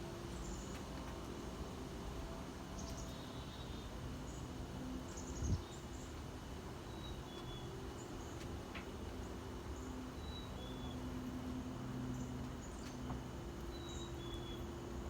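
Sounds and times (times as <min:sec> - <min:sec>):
low outdoor rumble: 0:00.0 - 0:15.0
small birds chirping: 0:00.3 - 0:00.9, 0:02.8 - 0:15.0.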